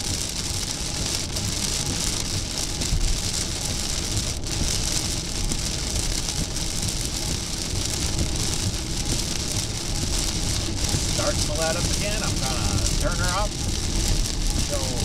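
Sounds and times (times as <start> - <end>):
heavy rain on a car: 0.0 - 15.0
road and tyre noise: 0.0 - 15.0.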